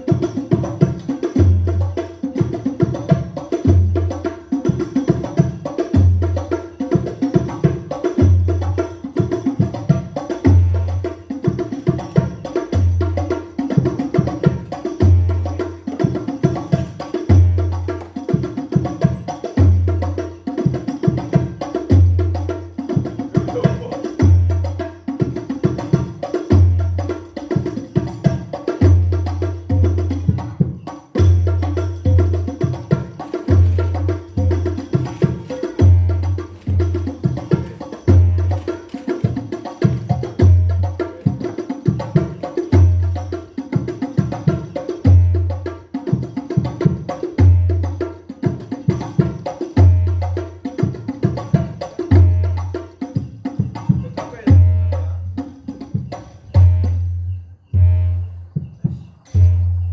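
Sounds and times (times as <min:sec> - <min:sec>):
frame drum percussion music: 0:00.0 - 0:59.9.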